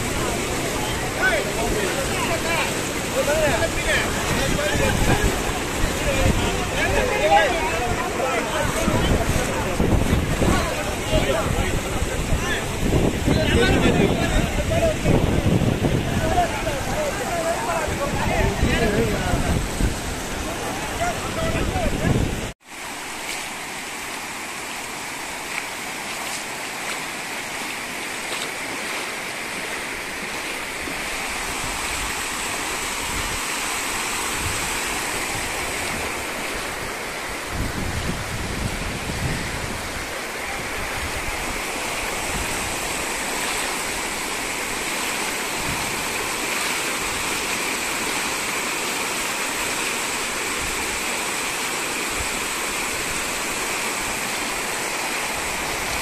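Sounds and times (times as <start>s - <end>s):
floodwater rushing: 0.0s - 56.0s
low wind gusts: 0.0s - 56.0s.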